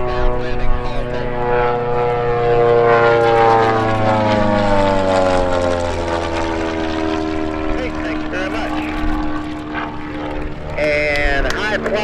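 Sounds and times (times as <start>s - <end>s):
propeller aircraft flyby: 0.0s - 12.0s.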